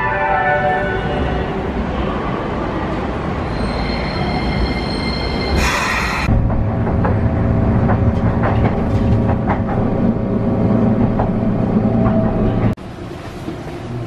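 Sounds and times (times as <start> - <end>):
tram mechanical hum: 0.0 - 14.0.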